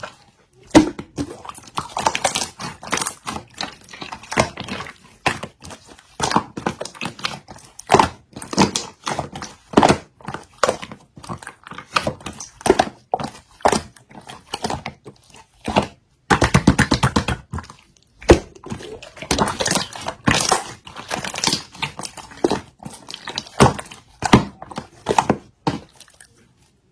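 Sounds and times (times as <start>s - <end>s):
slime squishing: 0.0s - 26.9s.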